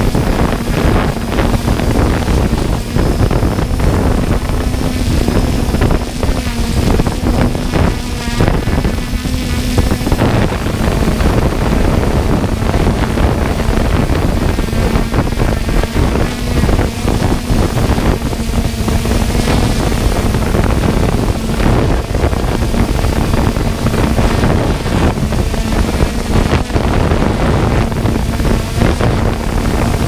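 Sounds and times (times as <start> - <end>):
drone motors humming: 0.0 - 30.0
wind buffeting microphone: 0.0 - 30.0.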